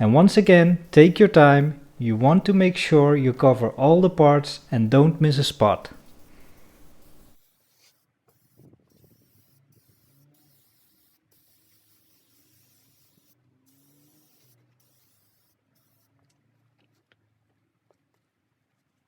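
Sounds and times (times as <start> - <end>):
faint even hiss: 0.0 - 16.0.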